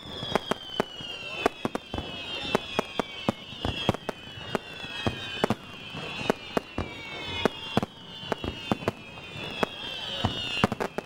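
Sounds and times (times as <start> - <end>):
falling firework whistles: 0.0 - 11.0
fireworks bangs and pops: 0.0 - 11.0.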